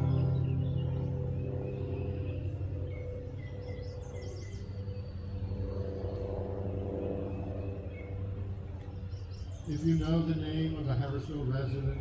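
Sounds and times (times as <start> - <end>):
bird chirping: 0.0 - 12.0
low hum of held tones: 0.0 - 12.0
outdoor ambience: 0.0 - 12.0.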